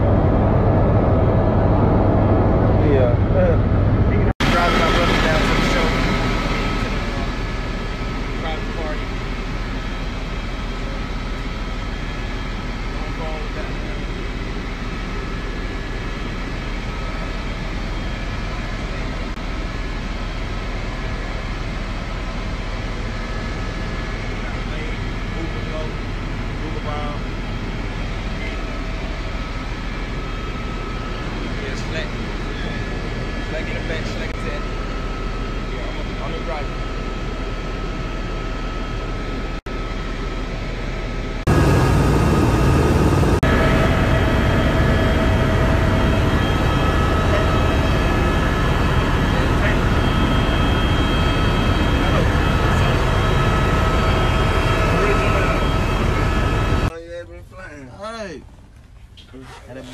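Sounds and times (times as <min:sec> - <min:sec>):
faint steady whine: 0:00.0 - 0:59.9
helicopter cabin drone: 0:00.0 - 0:59.9.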